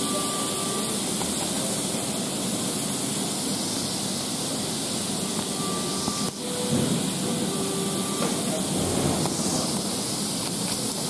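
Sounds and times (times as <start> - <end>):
standing train hiss and rumble: 0.0 - 11.0.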